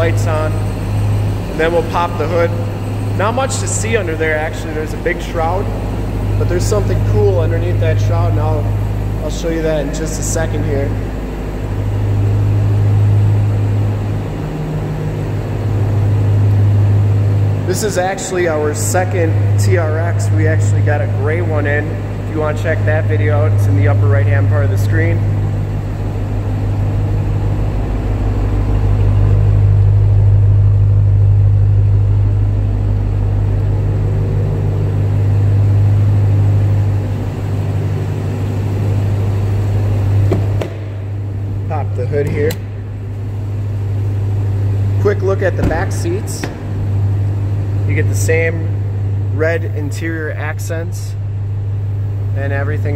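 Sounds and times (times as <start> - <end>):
engine idling deep hum: 0.0 - 52.9.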